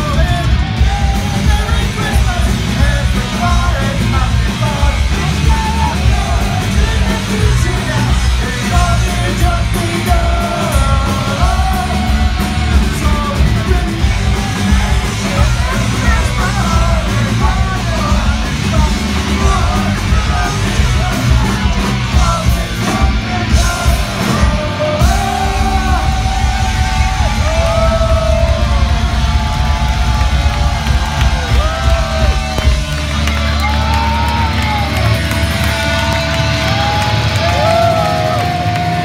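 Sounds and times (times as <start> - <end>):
punk band playing distorted rock: 0.0 - 39.0
yelled vocals: 0.0 - 39.0.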